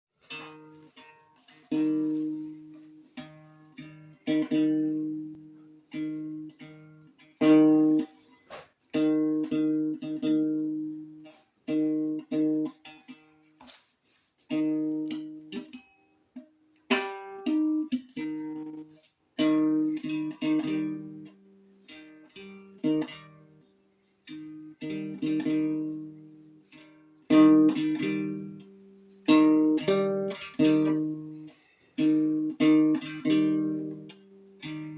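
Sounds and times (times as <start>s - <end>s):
plucked string instrument strumming: 0.2s - 34.9s.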